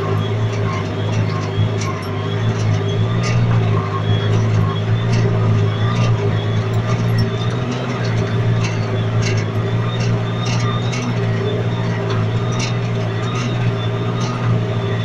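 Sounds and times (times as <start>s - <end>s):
light clicks and rattles: 0.0s - 14.6s
tractor diesel engine under load: 0.0s - 15.0s.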